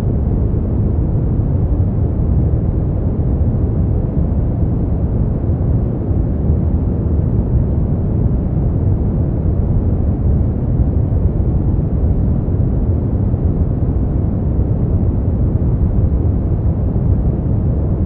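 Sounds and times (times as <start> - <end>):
deep rumbling brown noise: 0.0 - 18.0.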